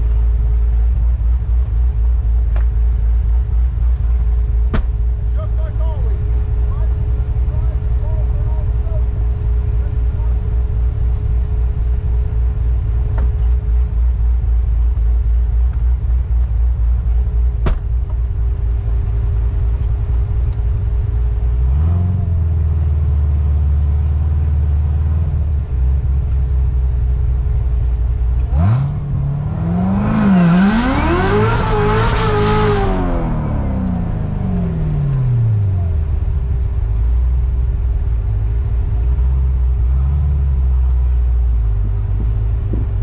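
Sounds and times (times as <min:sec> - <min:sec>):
car engine rumbling and revving: 0:00.0 - 0:43.0.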